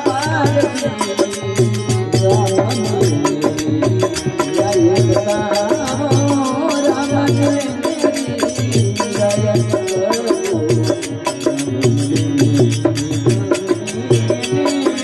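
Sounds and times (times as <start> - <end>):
hand drum beat: 0.0 - 15.0
high jingling percussion: 0.0 - 15.0.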